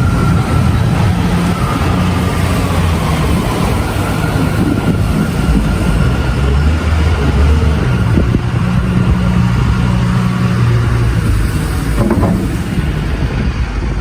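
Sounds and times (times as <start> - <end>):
vehicle engines running: 0.0 - 14.0.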